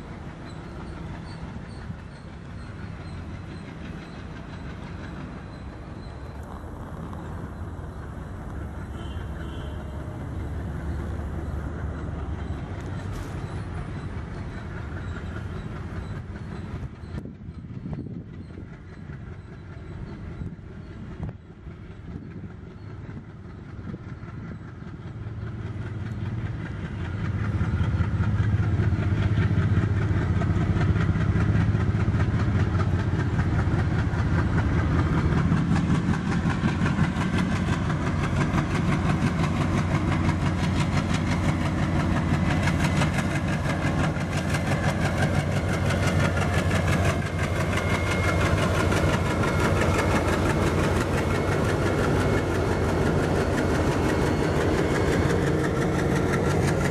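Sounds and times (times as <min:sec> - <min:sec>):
diesel locomotive engines droning: 0:00.0 - 0:56.9
wheel and rail clatter: 0:00.0 - 0:56.9.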